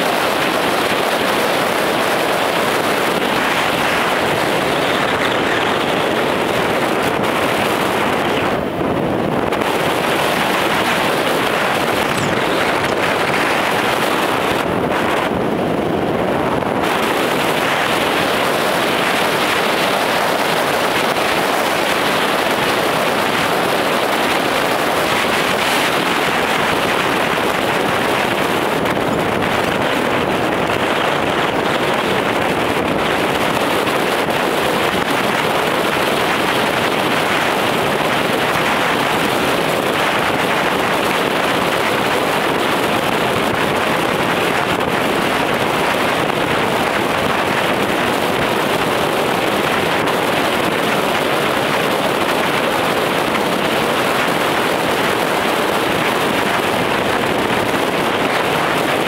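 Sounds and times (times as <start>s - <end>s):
road and wind noise in car: 0.0s - 59.0s.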